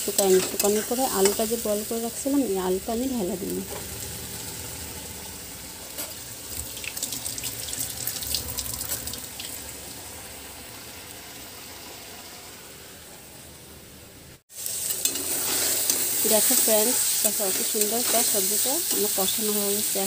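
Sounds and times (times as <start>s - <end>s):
masala sizzling in a pan: 0.0s - 20.0s.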